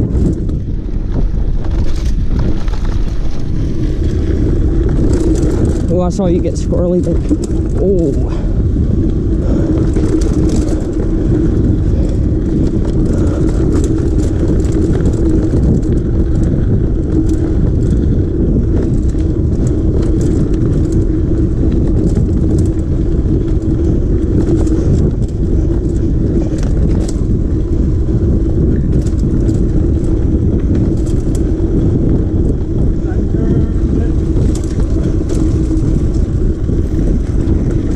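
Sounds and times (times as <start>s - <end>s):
mountain bike rolling on rough trail: 0.0s - 37.9s.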